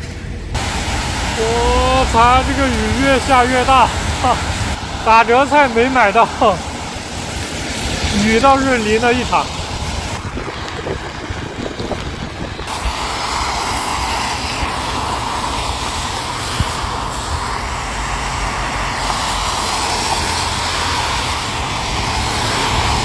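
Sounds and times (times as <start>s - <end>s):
heavy rain pouring: 0.3s - 23.0s.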